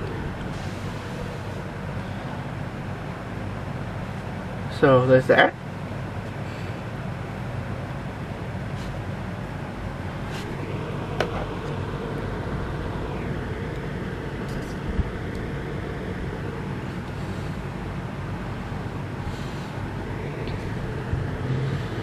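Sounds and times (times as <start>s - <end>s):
low rumble and hum: 0.0s - 22.0s.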